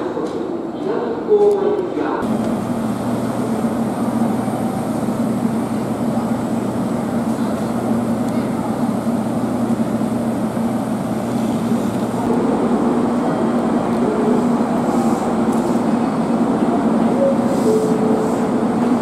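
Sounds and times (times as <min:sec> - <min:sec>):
electric train humming: 0:02.2 - 0:19.0.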